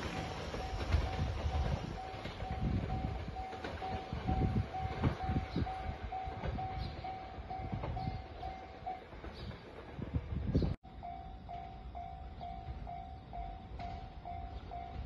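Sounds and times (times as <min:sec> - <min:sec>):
train rumble and wheel knocks: 0:00.0 - 0:15.0.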